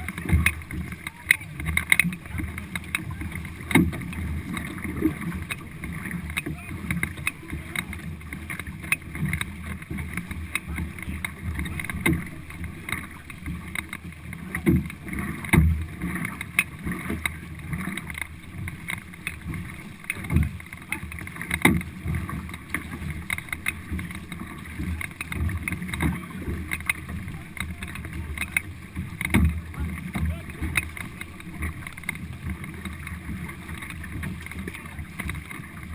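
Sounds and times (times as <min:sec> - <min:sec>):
paddle blades splashing: 0:00.0 - 0:35.9
thumps and splashes: 0:00.0 - 0:35.9
water rushing along hull: 0:00.0 - 0:35.9.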